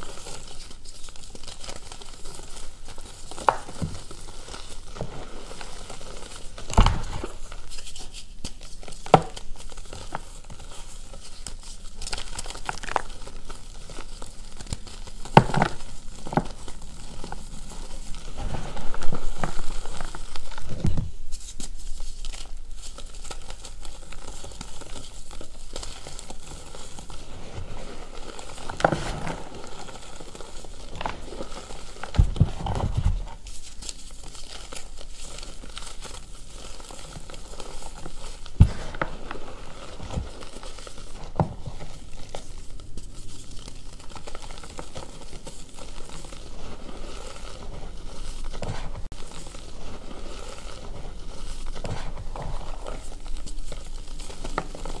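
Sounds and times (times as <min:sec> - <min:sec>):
chalk lumps crushing and crunching: 0:00.0 - 0:55.0.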